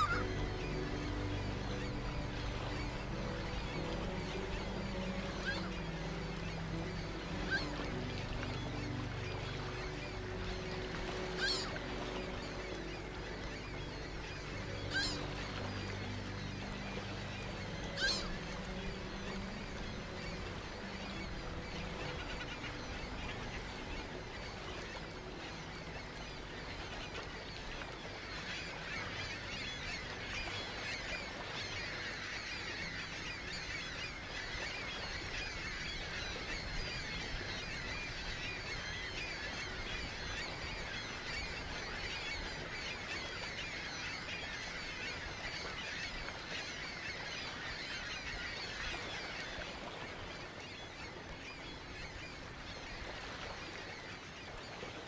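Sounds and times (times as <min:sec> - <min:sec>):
flock of gulls calling: 0:00.0 - 0:55.0.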